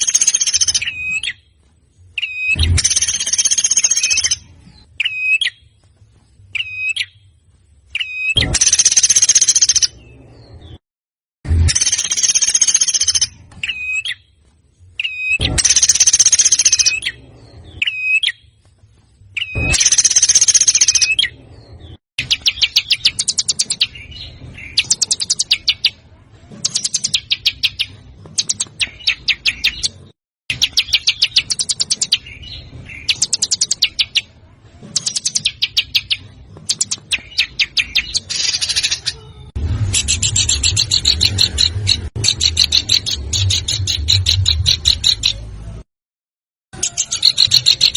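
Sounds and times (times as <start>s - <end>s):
songbird song: 0.0s - 10.8s, 11.7s - 39.2s, 40.0s - 45.8s.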